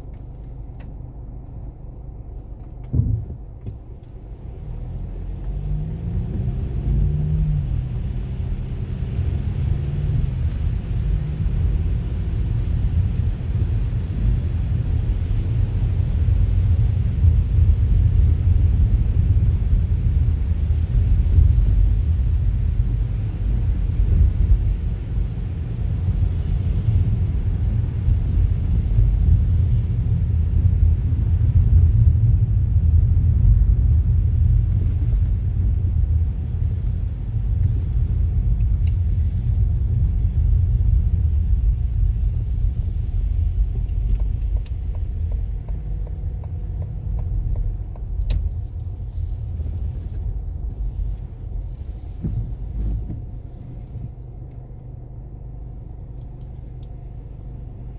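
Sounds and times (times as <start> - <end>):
car driving rumble: 0.0 - 57.9.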